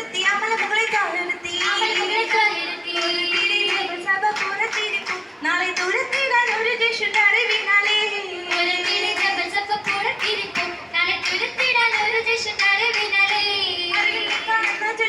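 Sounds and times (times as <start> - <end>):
rhythmic hand claps: 0.0 - 15.0
young voices singing in unison: 0.0 - 15.0.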